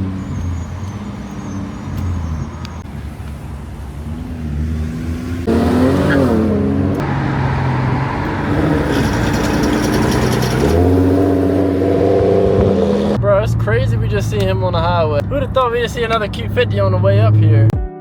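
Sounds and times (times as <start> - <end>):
car engine revving: 0.0 - 17.7.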